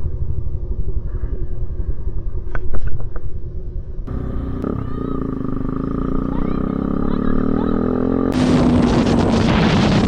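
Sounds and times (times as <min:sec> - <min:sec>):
motorcycle engine and wind rumble: 0:00.0 - 0:10.0.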